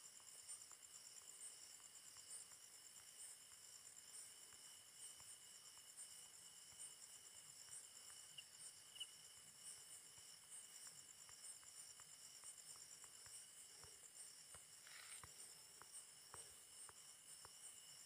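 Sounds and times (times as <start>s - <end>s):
crickets chirring: 0.0s - 18.0s
faint ticks: 0.0s - 18.0s.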